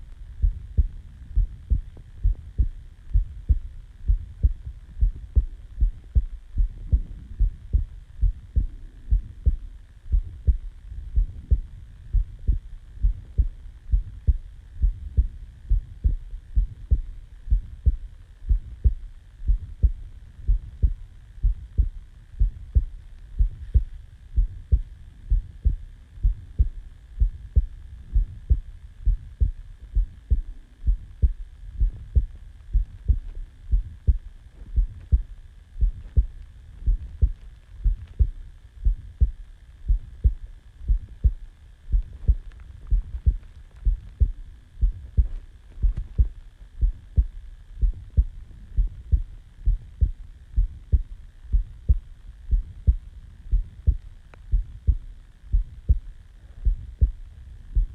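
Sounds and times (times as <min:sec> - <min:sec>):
heartbeat thumps: 0:00.0 - 0:57.9.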